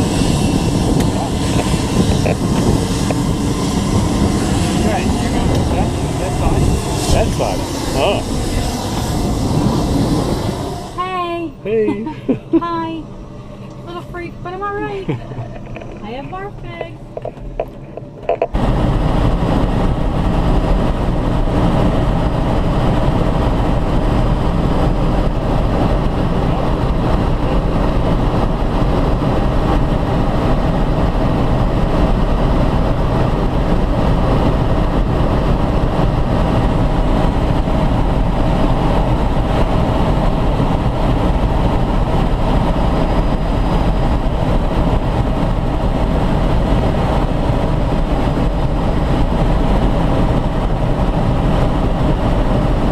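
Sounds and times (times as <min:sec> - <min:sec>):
helicopter engine and rotor din: 0:00.0 - 0:52.9.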